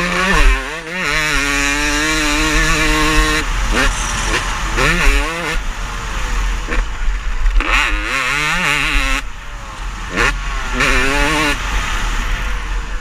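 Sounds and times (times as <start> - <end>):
motocross bikes revving: 0.0 - 12.6.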